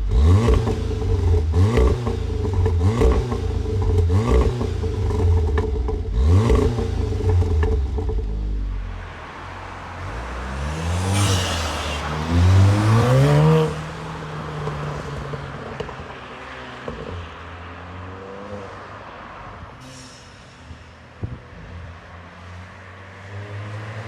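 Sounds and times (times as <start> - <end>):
car engine accelerating: 0.0 - 19.7
engine induction rush: 0.0 - 24.0.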